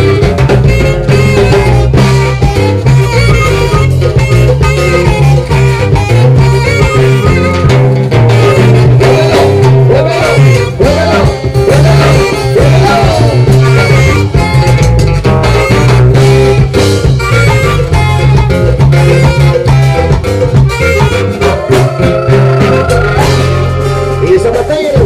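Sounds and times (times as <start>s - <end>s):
live band playing dance music: 0.0s - 25.0s.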